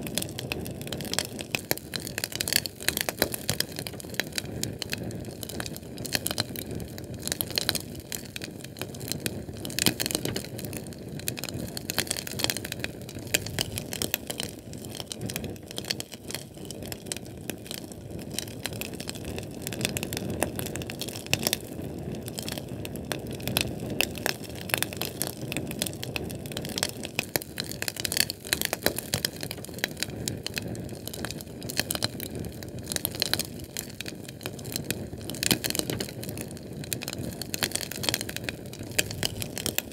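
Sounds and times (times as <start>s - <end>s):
canned fuel flame crackling: 0.0s - 39.9s.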